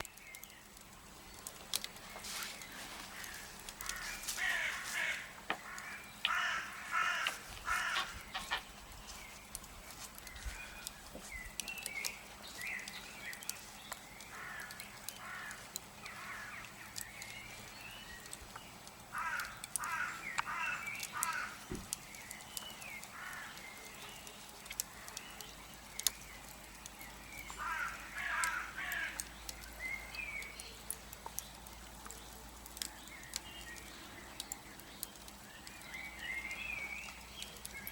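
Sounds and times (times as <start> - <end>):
birds calling harshly: 0.0 - 37.9
wood fire crackling: 0.0 - 37.9.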